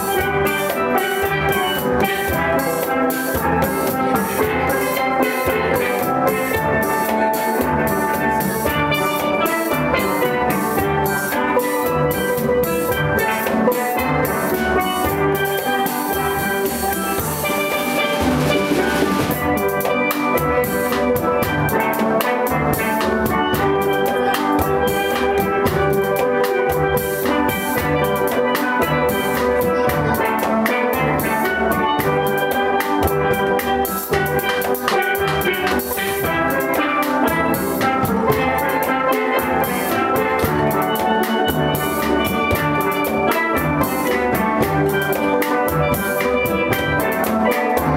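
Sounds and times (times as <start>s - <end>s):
drums keeping beat: 0.0s - 47.9s
steel pans playing: 0.0s - 47.9s.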